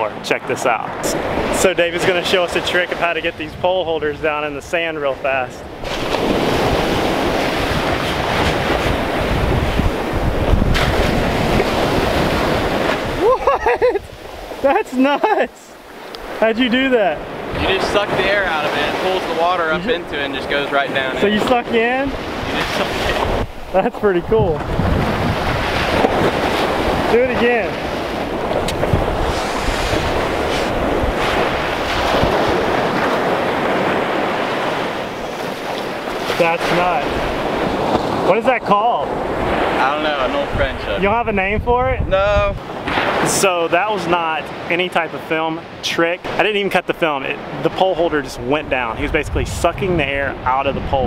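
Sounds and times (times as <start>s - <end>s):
wind buffeting microphone: 0.0s - 43.3s, 47.4s - 51.0s
surf breaking on beach: 0.0s - 51.0s.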